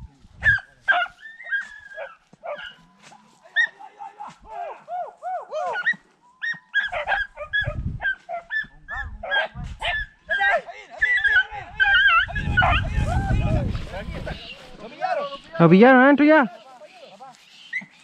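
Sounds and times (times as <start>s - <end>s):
beagles yelping and baying: 0.4s - 2.9s, 3.5s - 15.6s, 17.3s - 18.0s.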